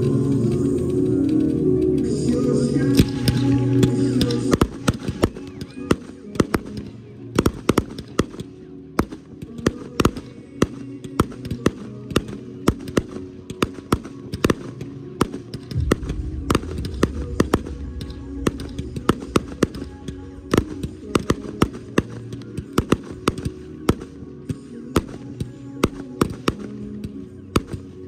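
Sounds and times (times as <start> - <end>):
show music: 0.0 - 9.1, 9.7 - 26.9
fireworks bangs and pops: 2.9 - 28.0.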